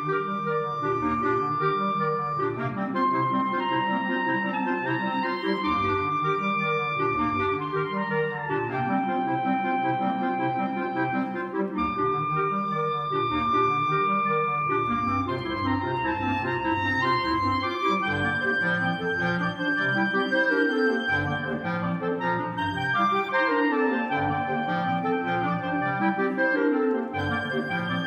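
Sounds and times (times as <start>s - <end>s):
clarinet quartet playing: 0.0s - 28.0s.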